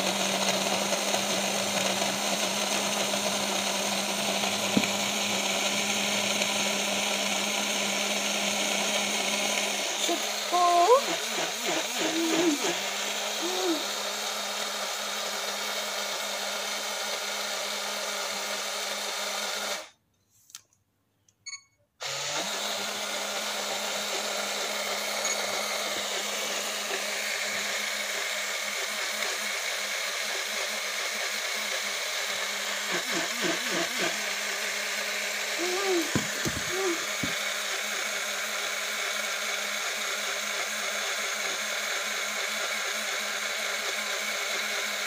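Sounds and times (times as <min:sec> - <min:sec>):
blender motor whirring: 0:00.0 - 0:20.0, 0:22.0 - 0:45.0.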